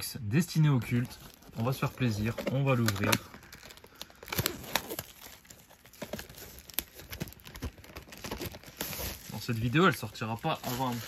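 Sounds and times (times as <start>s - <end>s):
plastic shrink-wrap crinkling: 0.0s - 11.0s.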